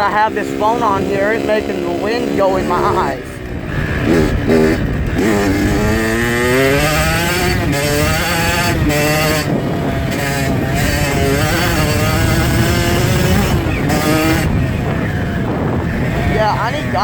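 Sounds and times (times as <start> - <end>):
dirt bike engine revving: 0.0 - 17.0
wind rumbling on microphone: 0.0 - 17.0.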